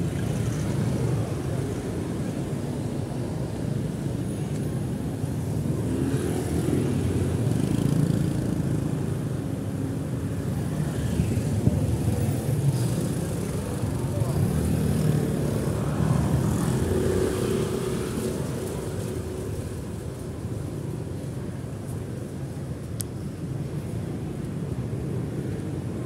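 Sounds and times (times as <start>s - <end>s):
scooters and small vehicles passing: 0.0s - 26.0s.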